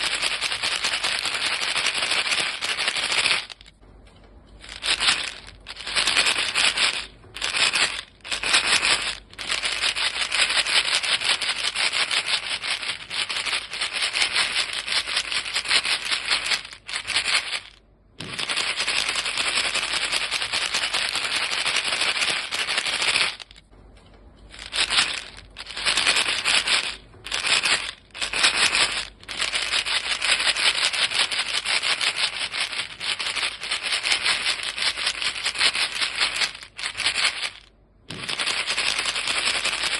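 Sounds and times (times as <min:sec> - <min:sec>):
gum pellets rattling in box: 0:00.0 - 0:03.8, 0:04.6 - 0:23.7, 0:24.4 - 0:39.9.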